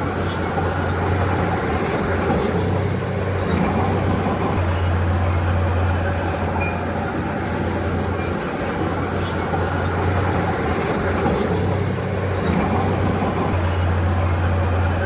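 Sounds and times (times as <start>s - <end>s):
bulldozer diesel engine running: 0.0s - 15.0s
clatter of bulldozer tracks: 0.0s - 15.0s.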